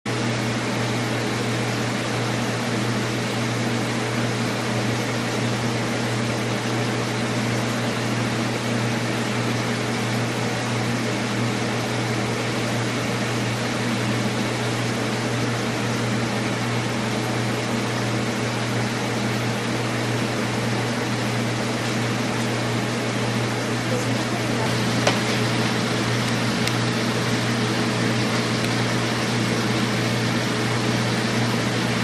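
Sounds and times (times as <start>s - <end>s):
steady machine hum with hiss: 0.1s - 32.0s.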